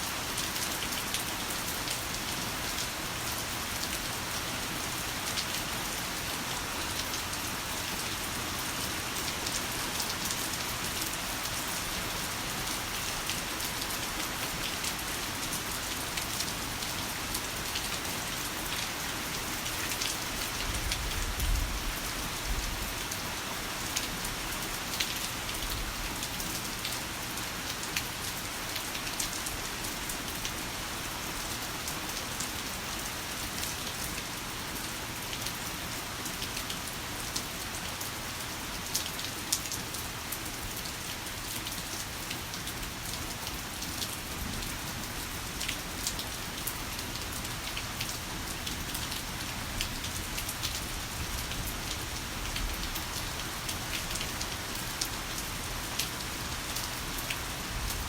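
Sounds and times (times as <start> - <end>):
heavy rain falling: 0.1 - 58.0.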